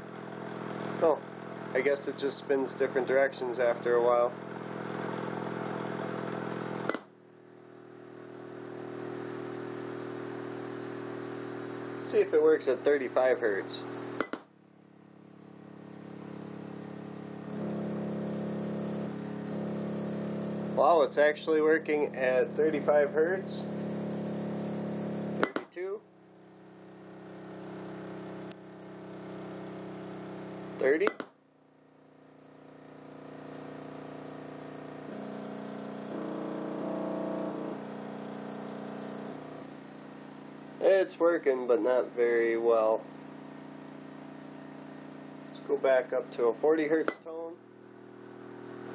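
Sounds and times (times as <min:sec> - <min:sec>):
subwoofer low buzz: 0:00.0 - 0:48.9.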